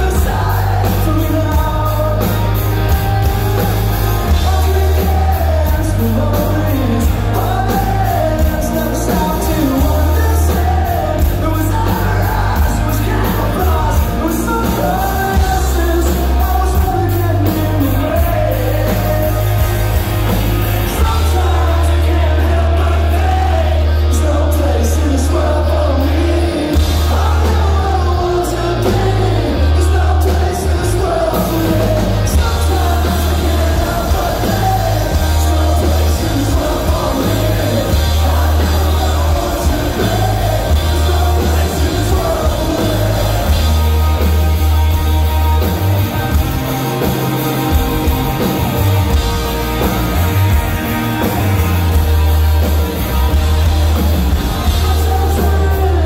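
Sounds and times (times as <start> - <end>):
male lead vocal: 0.0 - 56.0
punk rock band playing: 0.0 - 56.0.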